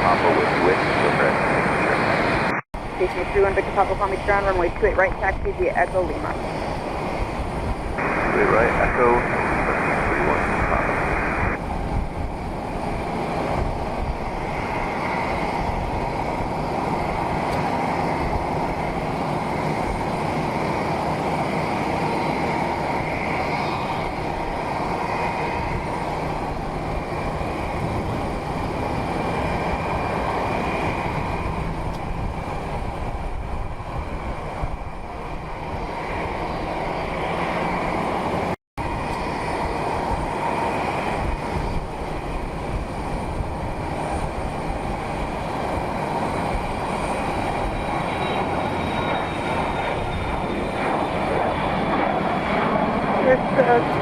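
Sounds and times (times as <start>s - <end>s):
jet aircraft engines rumbling: 0.0s - 54.0s.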